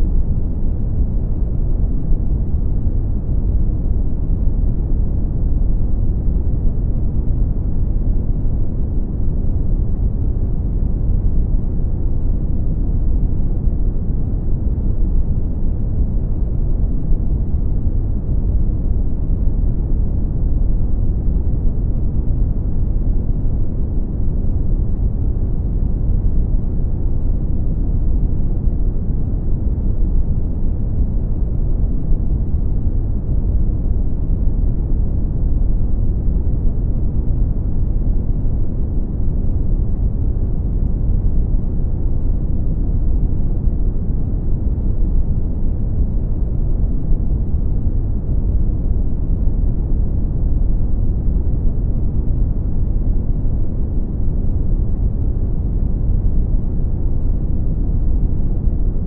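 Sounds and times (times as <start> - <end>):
brown noise rumbling hiss: 0.0 - 59.0.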